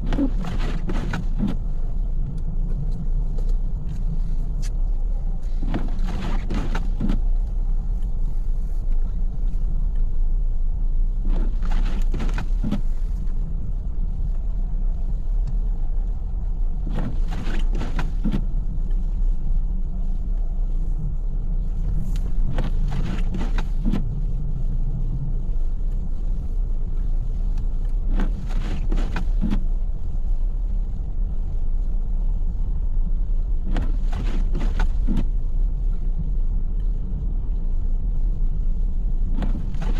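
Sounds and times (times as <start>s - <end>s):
windshield wiper swish: 0.0s - 4.9s, 5.5s - 9.7s, 11.1s - 13.5s, 16.8s - 19.4s, 21.6s - 39.9s
car engine and road rumble: 0.0s - 39.9s.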